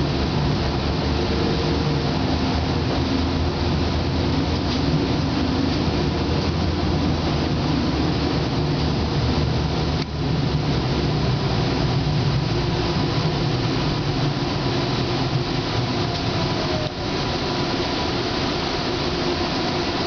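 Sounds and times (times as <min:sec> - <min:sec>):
tram wheels rumbling on rails: 0:00.0 - 0:17.8.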